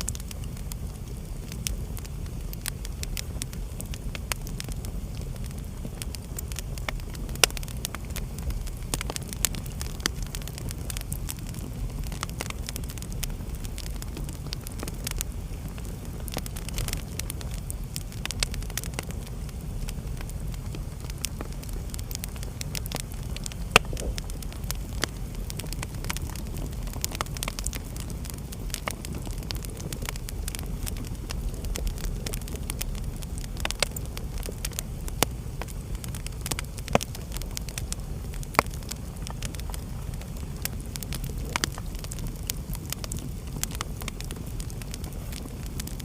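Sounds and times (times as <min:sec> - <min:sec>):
fire crackling and popping: 0:00.0 - 0:46.0
wood fire rumbling: 0:00.0 - 0:46.0.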